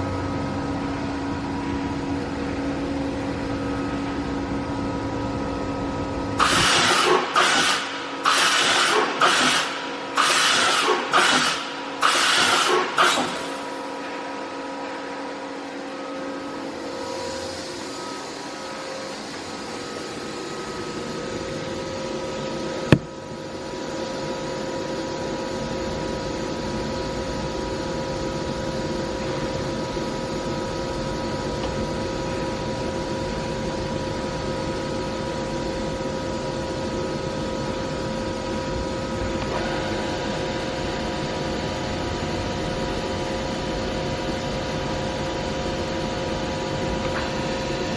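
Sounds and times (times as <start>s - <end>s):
machining center mechanical hum: 0.0s - 47.9s.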